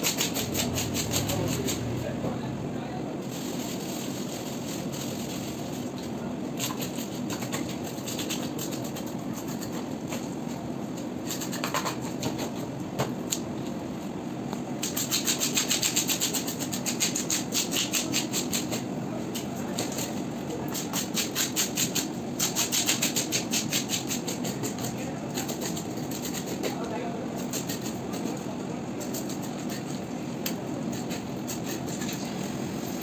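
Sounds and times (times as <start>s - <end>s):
low background noise: 0.0s - 33.0s.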